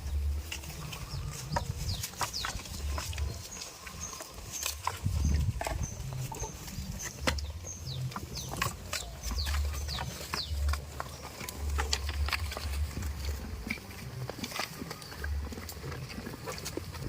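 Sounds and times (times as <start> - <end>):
birds chirping: 0.0 - 17.0
low rumbling: 0.0 - 17.0.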